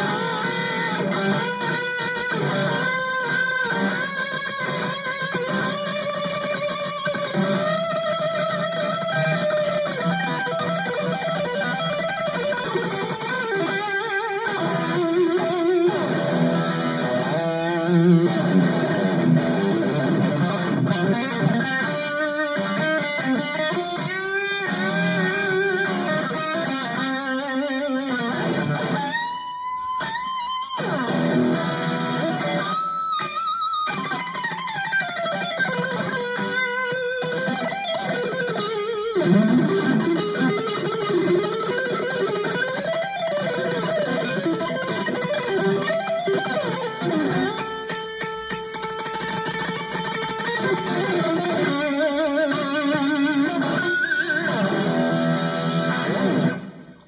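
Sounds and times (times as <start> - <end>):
electric guitar lead line: 0.0 - 57.0.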